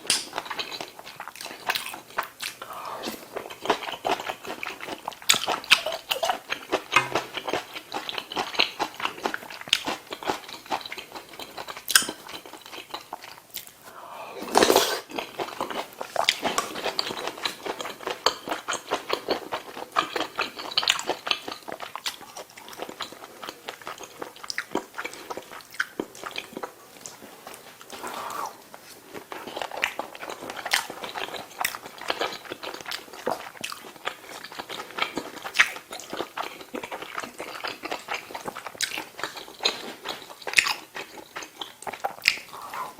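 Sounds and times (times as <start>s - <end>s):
person chewing: 0.0s - 42.9s.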